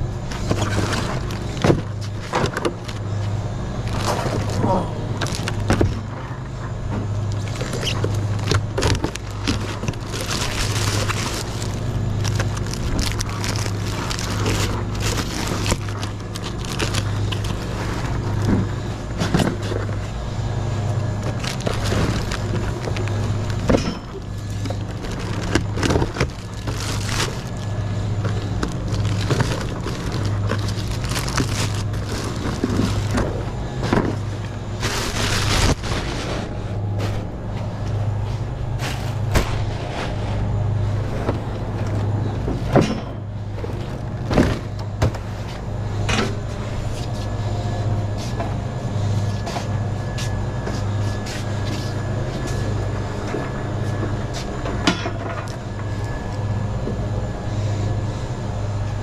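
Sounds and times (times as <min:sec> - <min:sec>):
hand truck wheels rumbling: 0:00.0 - 0:57.2.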